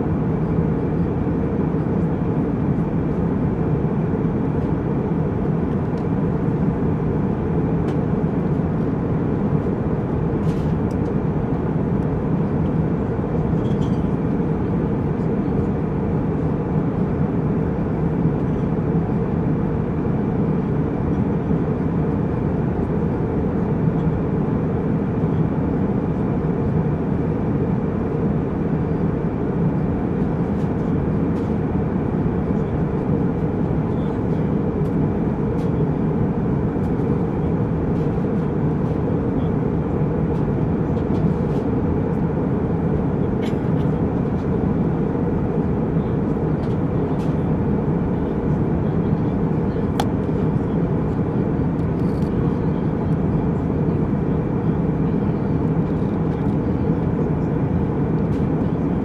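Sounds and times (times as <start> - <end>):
jet engine cabin rush: 0.1 - 59.0.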